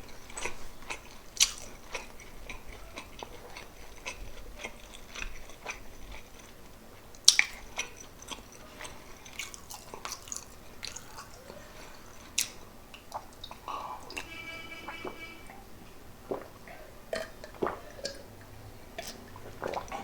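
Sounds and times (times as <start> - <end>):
close chewing and mouth sounds: 0.0 - 14.3, 16.2 - 20.0.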